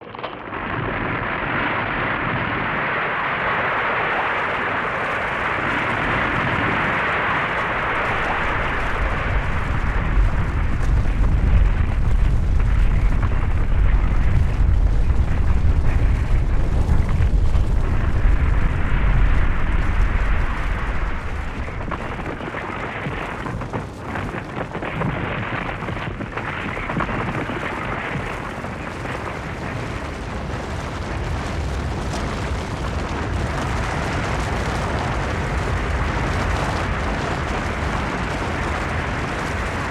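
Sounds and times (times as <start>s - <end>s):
avalanche rushing and rumbling: 0.0s - 39.9s.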